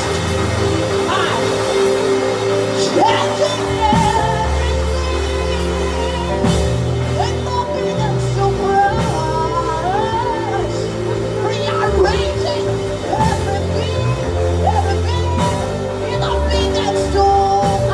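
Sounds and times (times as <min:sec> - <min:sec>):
bass line: 0:00.0 - 0:17.9
sustained keyboard chords: 0:00.0 - 0:17.9
wavering melody line: 0:00.0 - 0:17.9.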